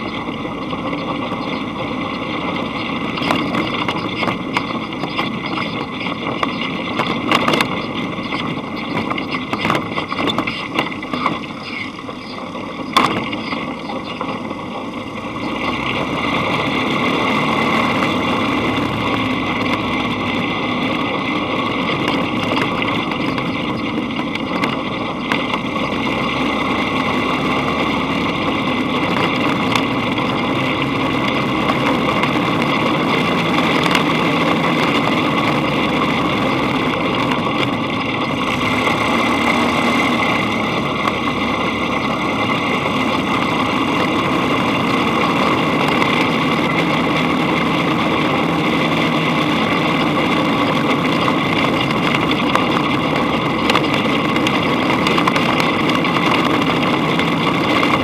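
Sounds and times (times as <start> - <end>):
dune buggy engine running: 0.0 - 58.0.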